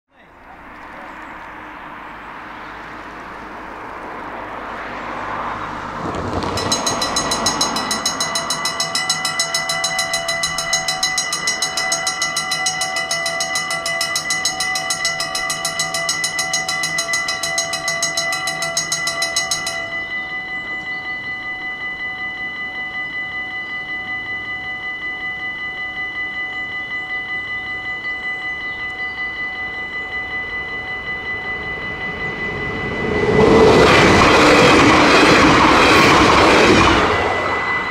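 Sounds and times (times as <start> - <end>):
road traffic: 0.1 - 37.9
level crossing warning bells: 0.3 - 37.9.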